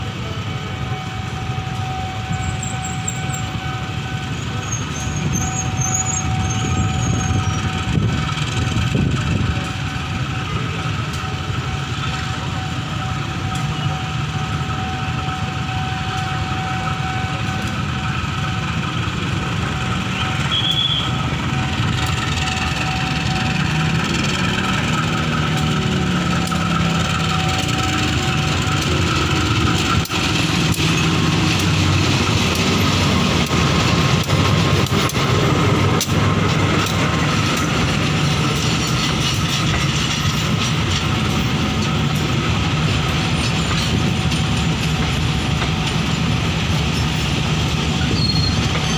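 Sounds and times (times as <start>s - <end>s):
diesel locomotive engine running: 0.0s - 48.9s
train coaches rolling past: 0.0s - 48.9s.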